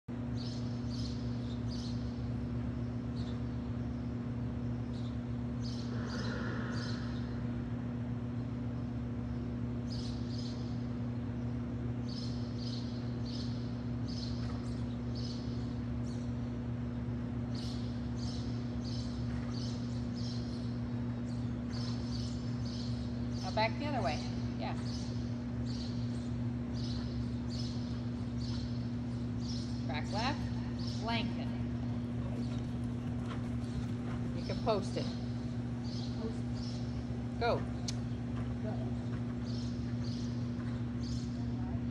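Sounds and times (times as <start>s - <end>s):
low electrical hum: 0.1s - 41.9s
small birds chirping: 0.1s - 41.9s.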